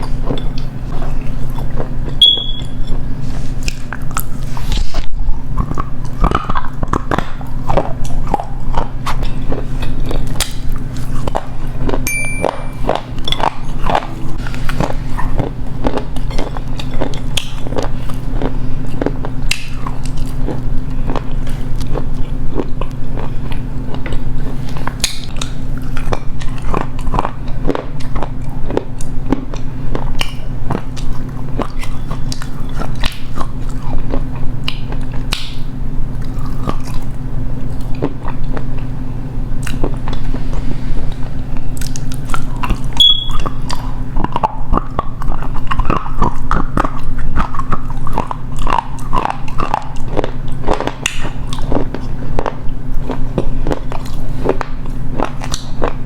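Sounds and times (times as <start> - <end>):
crunchy chewing: 0.0 - 12.1, 12.7 - 56.0
steady low hum: 0.0 - 56.0.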